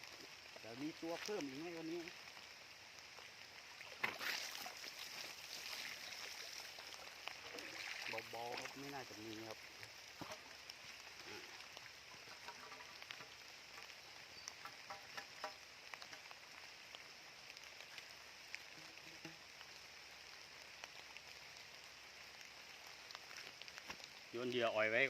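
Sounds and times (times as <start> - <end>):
faint outdoor hiss: 0.0 - 25.0
small drip-like clicks: 0.0 - 25.0.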